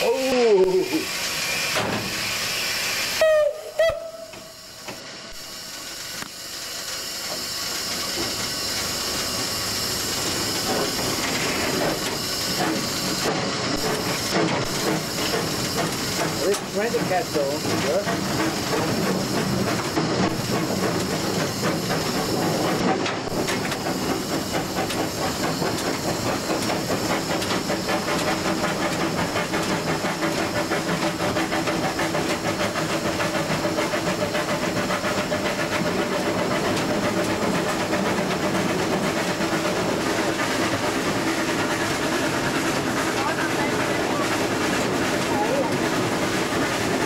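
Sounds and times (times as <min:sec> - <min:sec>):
steam hissing: 0:00.0 - 0:47.0
steam locomotive beat: 0:00.0 - 0:47.0
locomotive rattling: 0:06.9 - 0:47.0.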